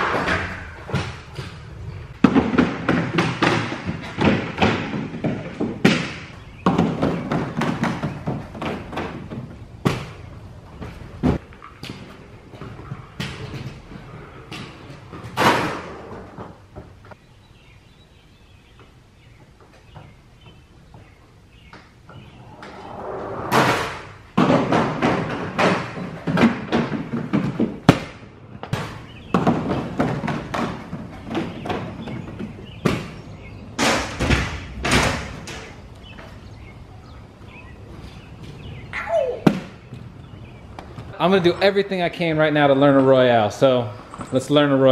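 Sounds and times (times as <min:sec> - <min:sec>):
inline skates rolling on concrete: 0:00.0 - 0:17.2, 0:18.8 - 0:44.9.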